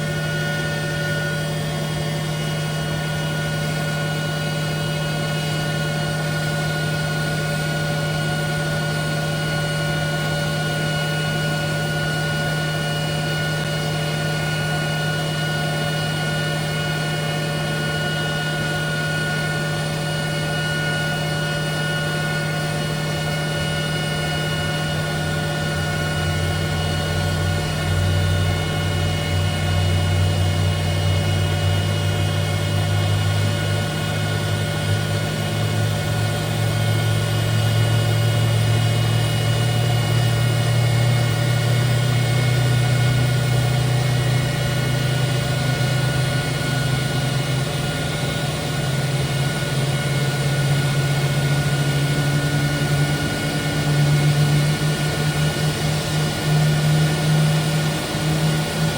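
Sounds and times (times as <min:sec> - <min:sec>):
jet engine whine: 0:00.0 - 0:58.9
low hum: 0:00.0 - 0:58.9.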